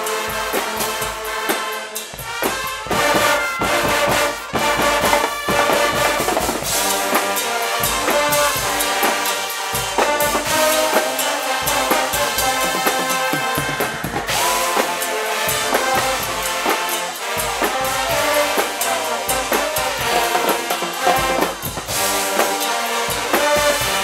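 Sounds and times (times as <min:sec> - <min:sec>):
drums and cymbals beat: 0:00.0 - 0:24.0
trumpets and trombones: 0:00.0 - 0:24.0.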